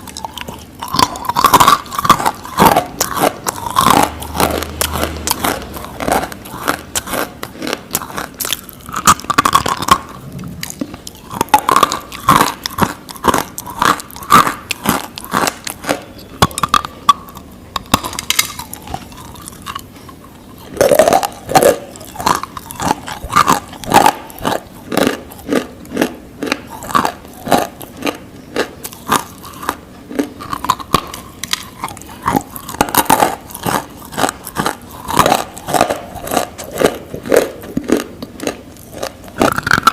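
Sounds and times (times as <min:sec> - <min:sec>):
chewing crunchy snack: 0:00.0 - 0:39.9.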